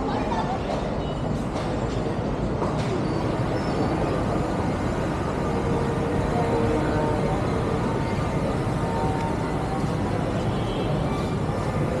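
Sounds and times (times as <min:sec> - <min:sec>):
city street traffic rumble: 0:00.0 - 0:12.0
motorbike engines: 0:00.8 - 0:12.0.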